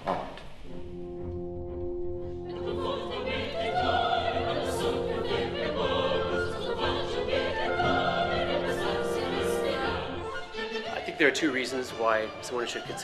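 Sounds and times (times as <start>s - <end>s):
instrumental accompaniment: 0.7s - 13.0s
operatic singing with vibrato: 2.5s - 13.0s.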